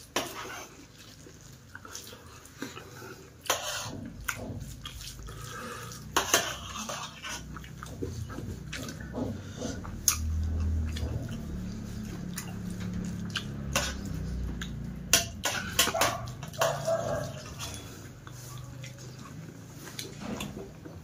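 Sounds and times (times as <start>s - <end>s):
fingers mixing food on steel plate: 0.0s - 21.0s.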